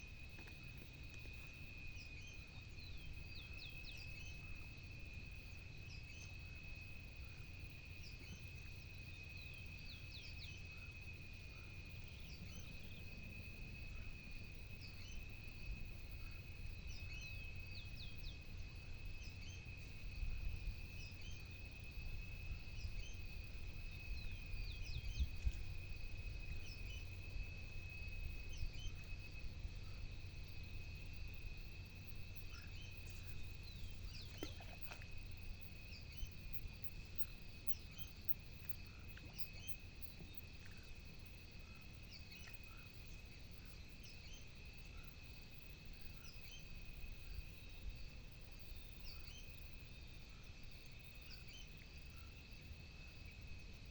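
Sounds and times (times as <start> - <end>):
insect drone: 0.0 - 53.9.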